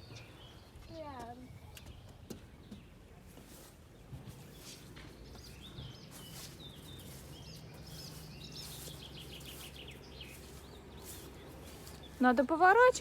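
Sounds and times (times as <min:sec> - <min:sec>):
quiet outdoor background noise: 0:00.0 - 0:13.0
small birds chirping: 0:00.0 - 0:13.0.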